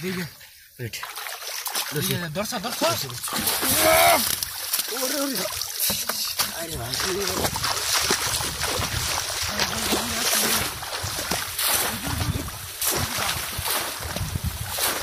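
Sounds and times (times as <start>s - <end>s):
shallow water splashing: 0.9s - 15.0s.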